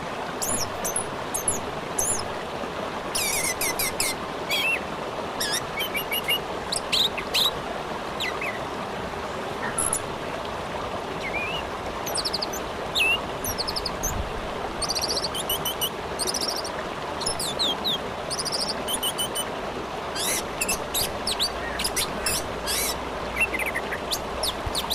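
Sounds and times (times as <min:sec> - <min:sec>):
river rushing: 0:00.0 - 0:24.9.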